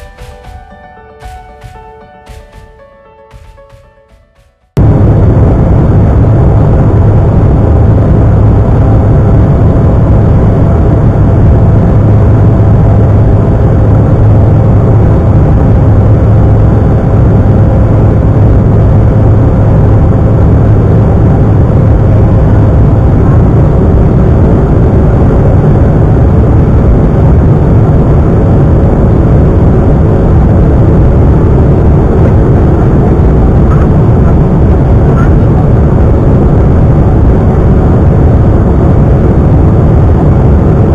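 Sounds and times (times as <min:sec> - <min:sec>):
jet engine roar in cabin: 0:04.8 - 0:40.9
low drone: 0:04.8 - 0:40.9.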